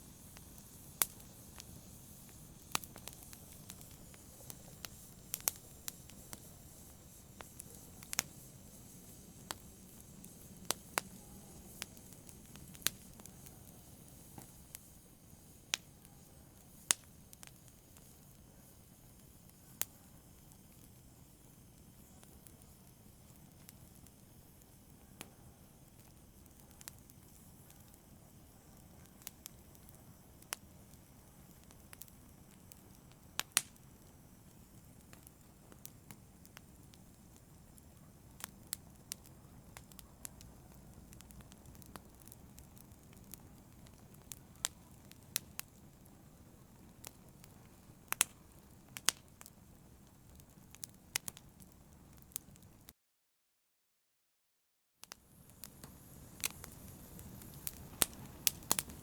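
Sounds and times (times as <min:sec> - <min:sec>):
small fire crackling: 0:00.0 - 0:52.9, 0:55.0 - 0:59.0.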